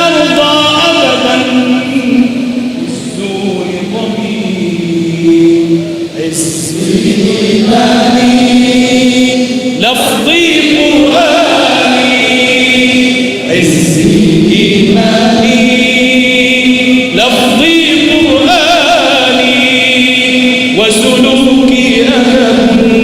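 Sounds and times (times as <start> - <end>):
male voices chanting: 0.0 - 23.0.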